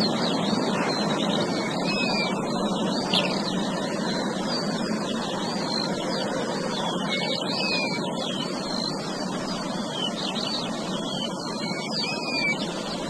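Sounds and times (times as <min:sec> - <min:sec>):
many birds chirping and whistling: 0:00.0 - 0:13.0
steady background noise: 0:00.0 - 0:13.0.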